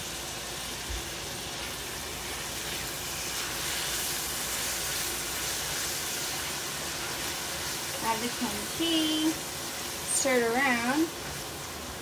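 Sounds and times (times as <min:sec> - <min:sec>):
food sizzling in a pan: 0:00.0 - 0:12.0
spatula stirring in pan: 0:00.9 - 0:11.9.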